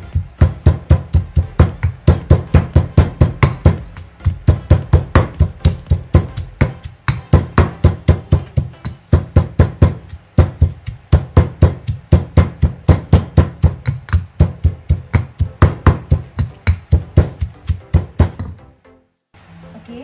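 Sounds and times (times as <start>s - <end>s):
stone pestle pounding in mortar: 0.0s - 18.6s.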